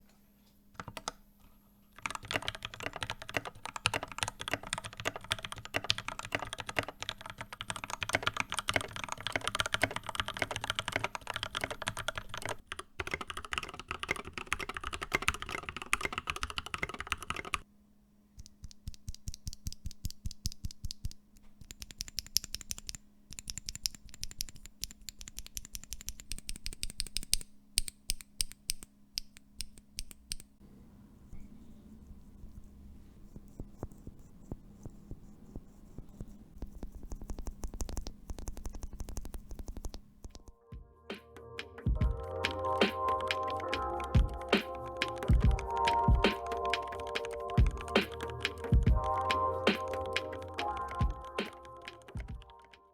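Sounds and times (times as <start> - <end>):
mechanical keyboard typing: 0.8 - 1.2, 2.0 - 17.6, 18.4 - 30.5, 36.6 - 40.5, 42.0 - 52.8.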